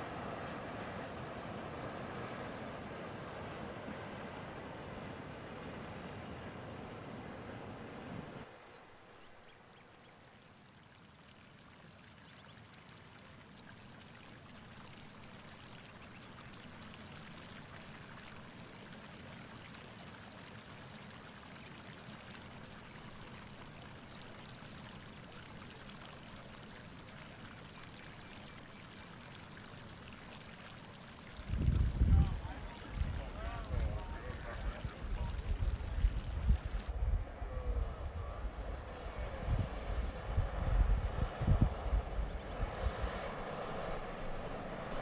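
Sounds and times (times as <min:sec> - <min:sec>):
water flowing and splashing: 0:00.0 - 0:37.3, 0:38.1 - 0:45.0.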